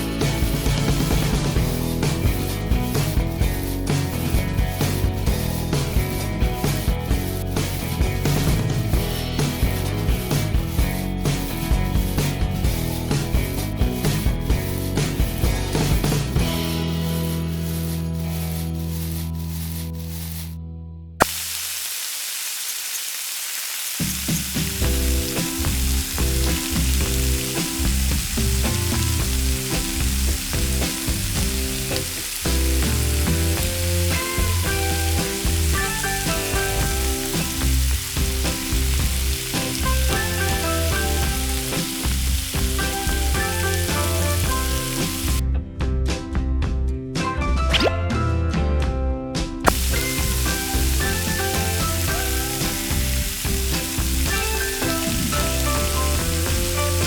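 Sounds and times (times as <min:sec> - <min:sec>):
food frying sizzle: 0:00.0 - 0:17.2, 0:21.2 - 0:45.4, 0:49.7 - 0:57.0
background music: 0:00.0 - 0:20.6, 0:24.2 - 0:57.0.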